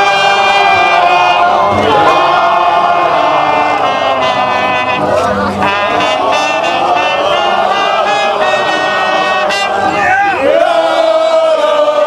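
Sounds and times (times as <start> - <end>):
brass band playing: 0.0 - 11.1
men singing and chanting: 0.0 - 12.0.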